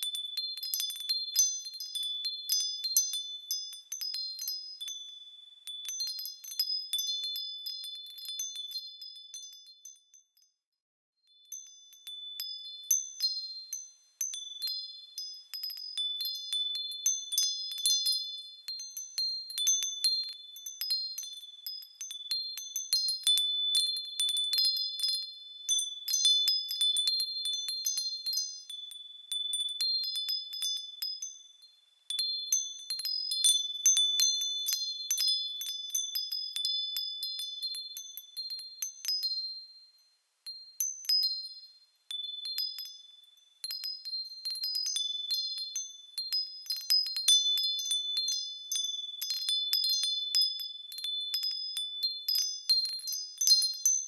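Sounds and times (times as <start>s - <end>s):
small bells ringing: 0.0s - 10.6s, 11.3s - 54.0s.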